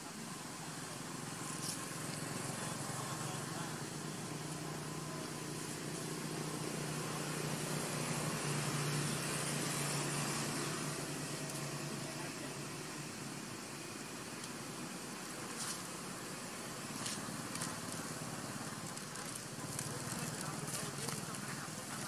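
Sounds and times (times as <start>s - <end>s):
constant hiss: 0.0s - 22.0s
engine running with low hum: 0.0s - 22.0s.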